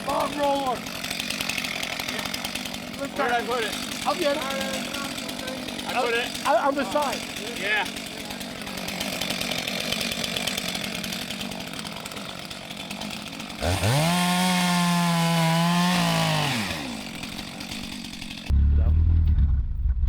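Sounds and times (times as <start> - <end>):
chainsaw revving: 0.0 - 19.1.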